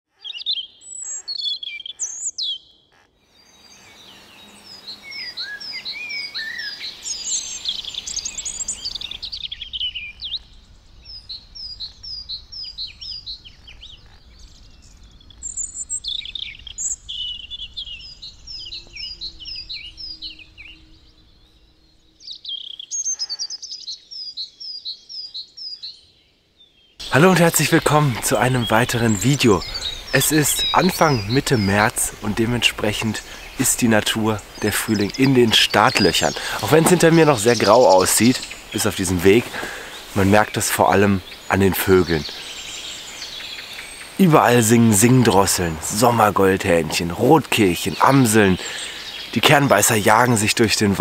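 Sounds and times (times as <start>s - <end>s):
songbirds singing: 0.1s - 51.0s.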